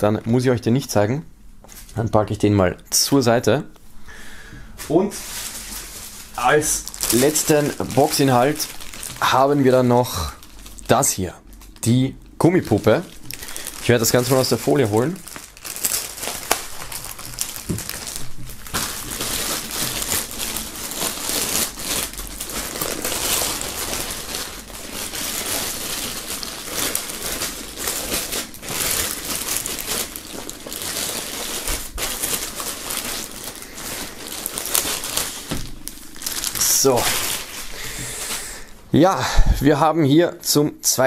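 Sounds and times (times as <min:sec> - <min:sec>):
plastic bag crinkling: 0:04.8 - 0:38.9.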